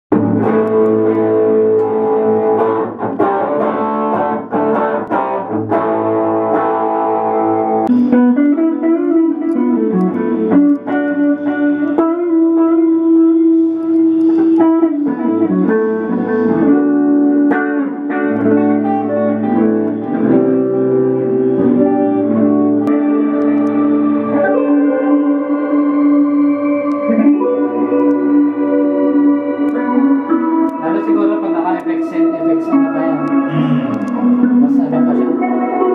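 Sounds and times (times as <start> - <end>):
electric guitar: 0.1 - 35.9.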